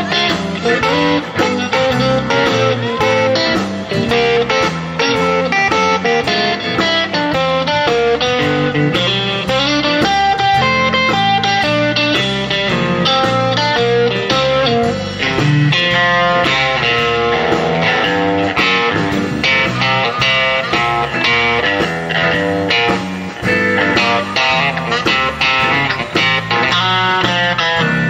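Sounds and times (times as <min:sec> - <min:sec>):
bluesy electric guitar band music: 0:00.0 - 0:28.0.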